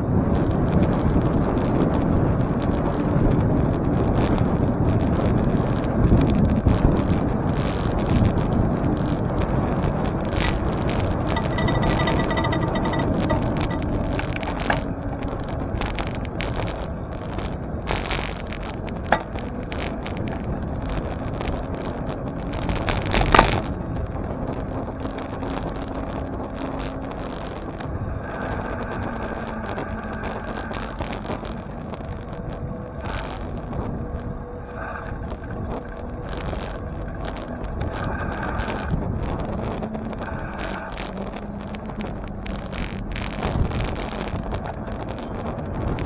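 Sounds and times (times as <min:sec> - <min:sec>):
wind noise on microphone: 0:00.0 - 0:46.0.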